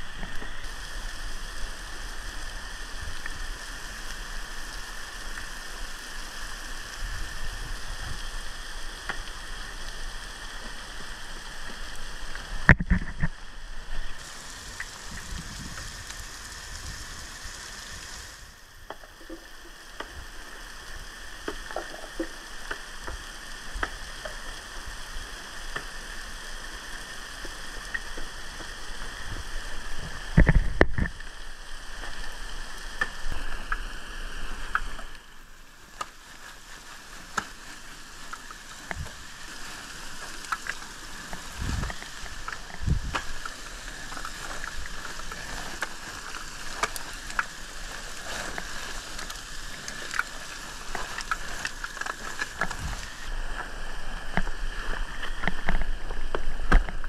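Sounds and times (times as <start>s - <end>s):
waterfall hiss: 0.0s - 57.0s.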